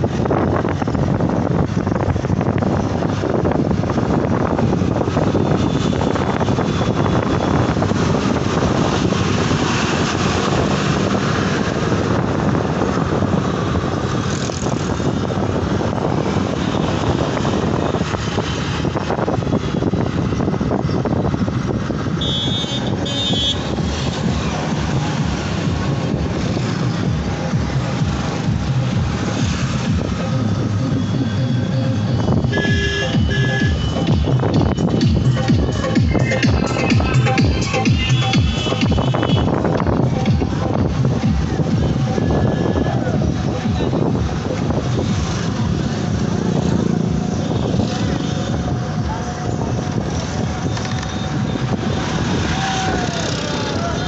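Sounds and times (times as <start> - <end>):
road and wind noise: 0.0 - 54.0
traffic: 0.0 - 54.0.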